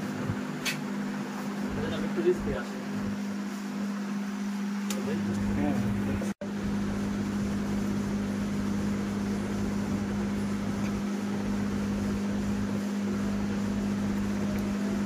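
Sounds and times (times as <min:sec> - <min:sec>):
cooling fan humming: 0:00.0 - 0:15.0.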